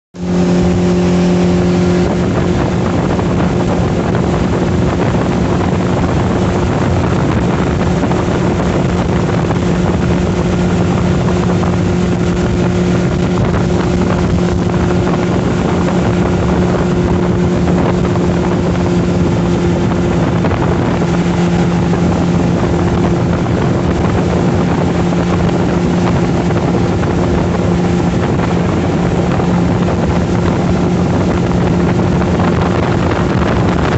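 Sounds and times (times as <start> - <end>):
motorboat engine running: 0.2 - 33.9
rushing water: 0.2 - 33.9
wind noise: 0.2 - 33.9.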